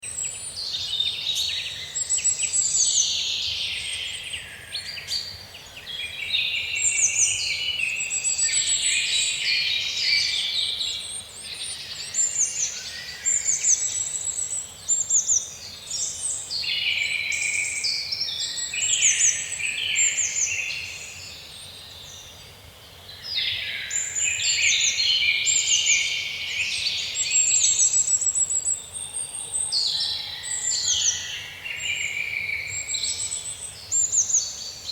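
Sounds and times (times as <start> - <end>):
songbirds singing and trilling: 0.0 - 34.9.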